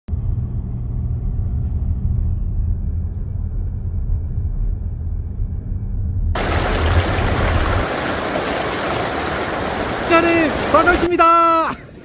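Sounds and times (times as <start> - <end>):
car driving on road: 0.1 - 10.8.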